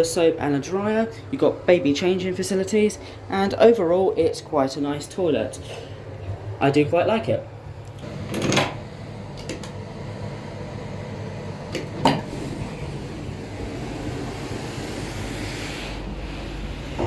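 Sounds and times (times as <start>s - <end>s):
air-conditioning hum: 0.0s - 17.0s.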